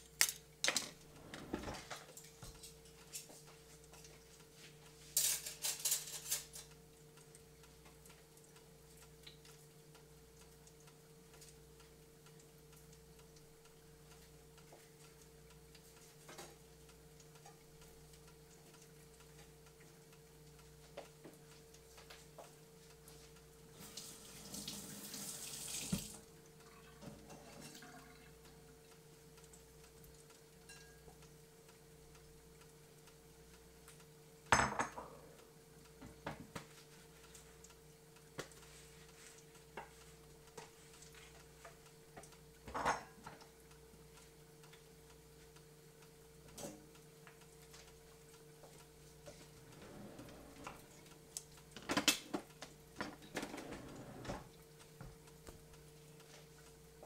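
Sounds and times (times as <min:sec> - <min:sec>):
fryer hum: 0:00.0 - 0:57.0.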